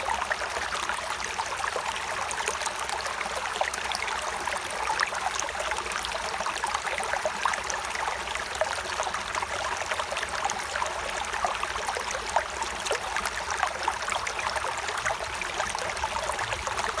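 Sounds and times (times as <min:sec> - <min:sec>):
stream burbling: 0:00.0 - 0:17.0.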